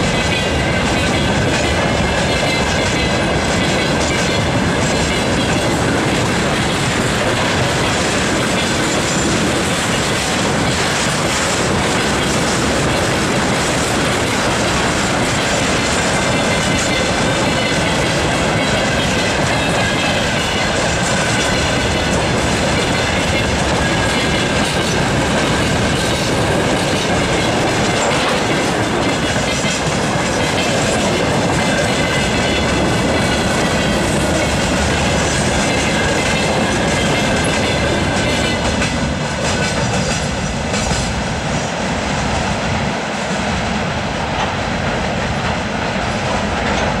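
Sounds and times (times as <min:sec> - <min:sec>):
freight train wheels rumbling: 0:00.0 - 0:47.0.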